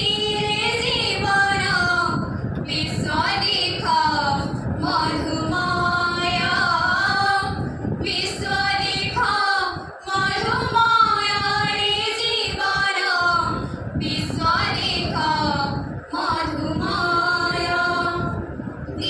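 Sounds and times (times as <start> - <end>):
women singing together: 0.0 - 19.0.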